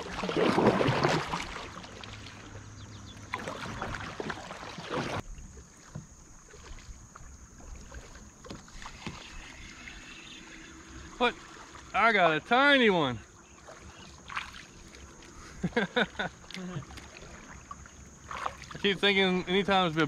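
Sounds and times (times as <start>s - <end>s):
faint water sounds: 0.0s - 20.0s
kayak paddle splashing water: 0.0s - 20.0s.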